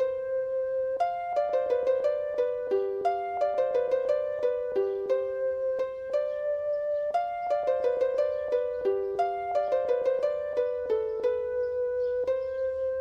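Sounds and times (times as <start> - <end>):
plucked harp-like melody: 0.0 - 13.0.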